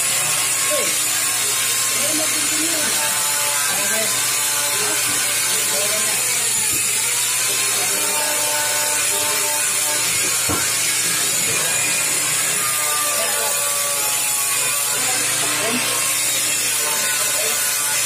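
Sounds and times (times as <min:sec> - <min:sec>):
angle grinder grinding metal: 0:00.0 - 0:18.0.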